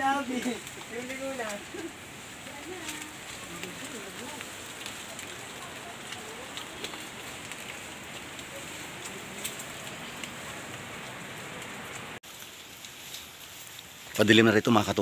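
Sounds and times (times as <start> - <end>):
light rain on foliage: 0.0 - 15.0.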